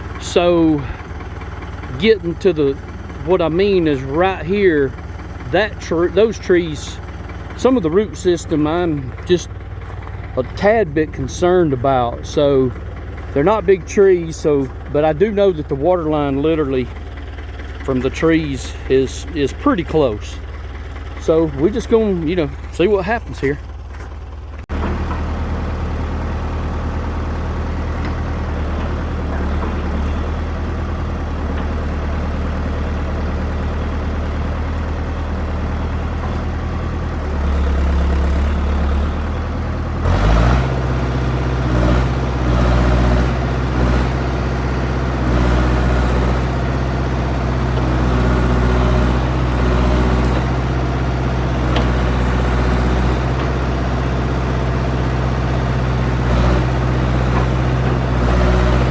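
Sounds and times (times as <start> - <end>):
backhoe engine running: 0.0 - 58.9.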